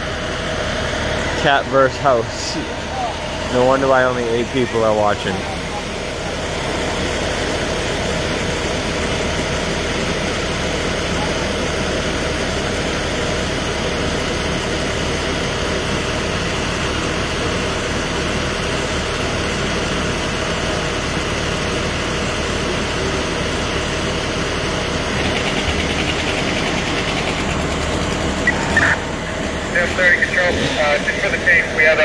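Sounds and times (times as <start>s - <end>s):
heavy vehicle engine idling: 0.0s - 32.0s.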